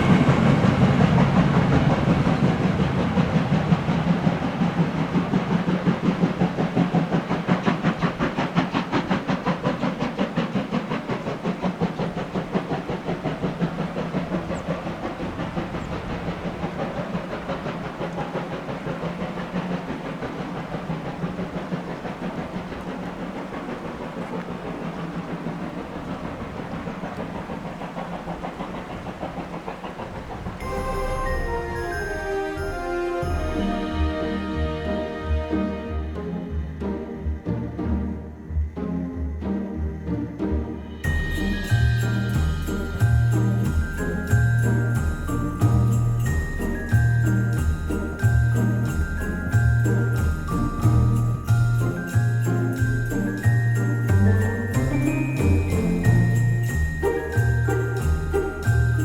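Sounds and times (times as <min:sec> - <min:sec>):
hiss and rail noise: 0:00.0 - 0:59.0
model steam locomotive chuffing: 0:00.0 - 0:59.0.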